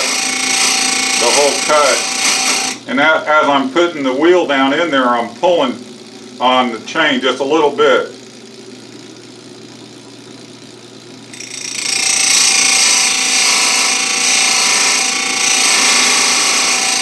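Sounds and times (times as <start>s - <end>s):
grinding wheel on steel: 0.0s - 9.3s, 9.9s - 17.0s
chain grinder humming: 0.0s - 17.0s.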